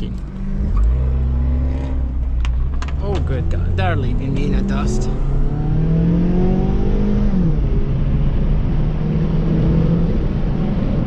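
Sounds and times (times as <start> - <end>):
car engine accelerating: 0.0 - 11.0
low road drone: 0.0 - 11.0.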